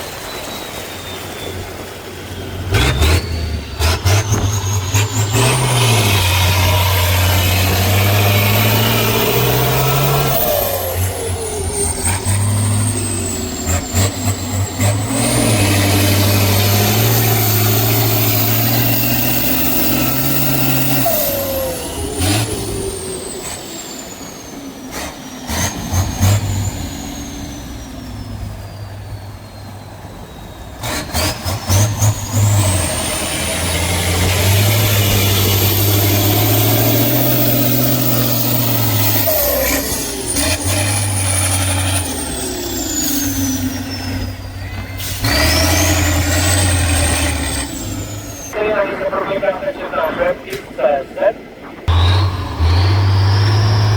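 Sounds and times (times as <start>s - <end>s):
truck diesel engine revving: 1.5s - 50.9s, 51.8s - 53.9s.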